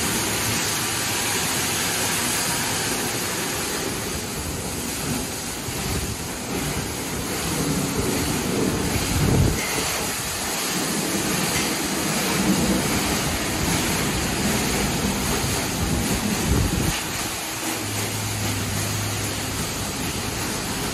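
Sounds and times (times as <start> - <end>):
car wash brushes scrubbing: 0.0 - 20.9
spraying water: 0.0 - 20.9.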